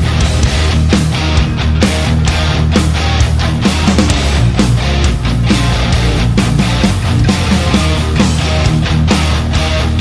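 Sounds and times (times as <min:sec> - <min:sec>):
drum hits: 0:00.0 - 0:09.5
heavy metal band playing live: 0:00.0 - 0:10.0.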